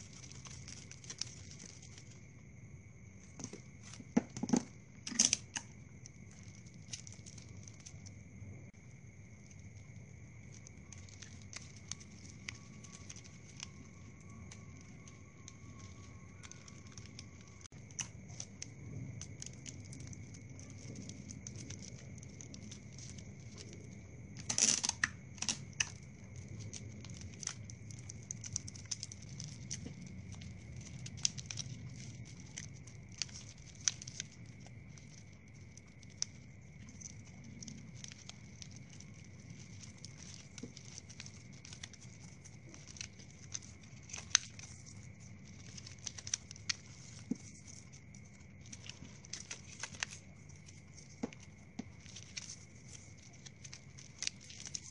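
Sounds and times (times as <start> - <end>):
plastic straws crinkling: 0.0 - 2.2, 3.2 - 8.2, 9.3 - 54.9.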